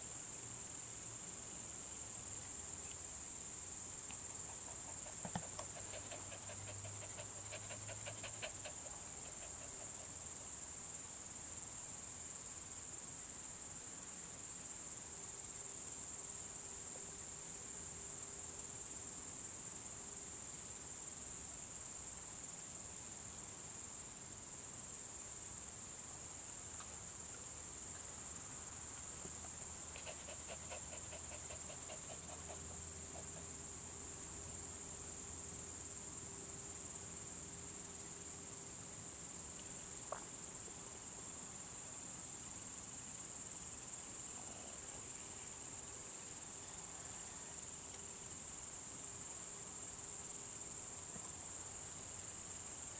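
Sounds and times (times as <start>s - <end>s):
crickets chirring: 0.0s - 16.9s, 18.2s - 52.9s.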